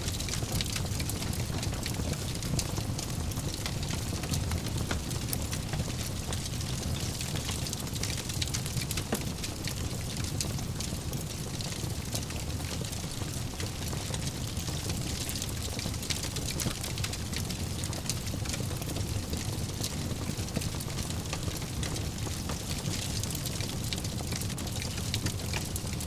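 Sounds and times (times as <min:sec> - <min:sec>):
fireplace fire crackling: 0:00.0 - 0:26.0.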